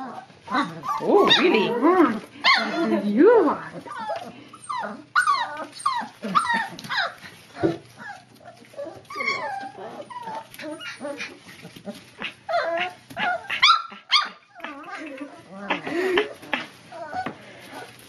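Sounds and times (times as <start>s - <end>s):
puppies yipping and whining: 0.0s - 18.0s.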